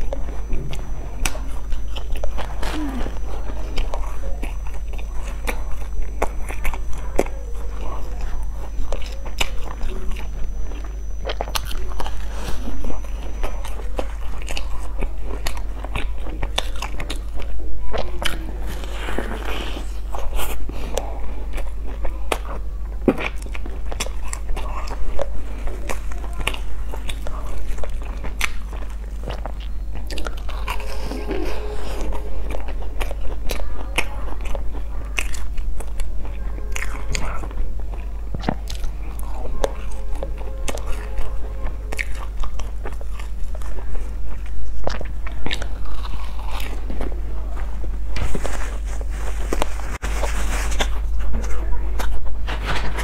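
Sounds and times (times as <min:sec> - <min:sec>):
person chewing bread: 0:00.0 - 0:53.0.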